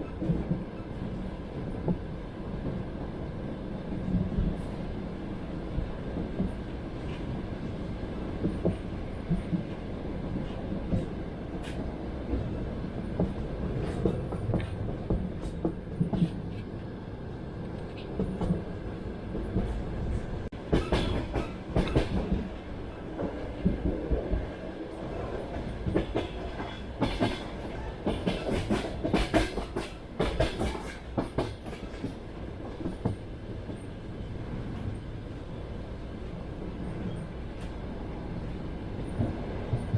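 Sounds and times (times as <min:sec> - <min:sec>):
wheels clickety-clack over rail joints: 0:00.0 - 0:16.9, 0:17.6 - 0:35.4, 0:36.1 - 0:39.9
train carriage rumbling on rails: 0:00.0 - 0:39.9.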